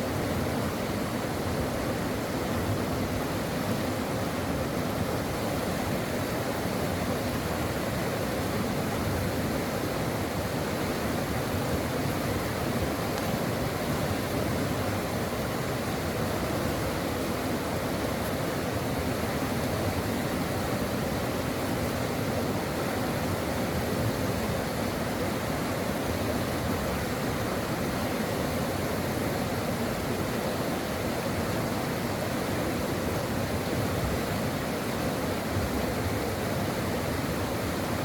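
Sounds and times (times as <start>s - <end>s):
brook water running: 0.0s - 38.0s.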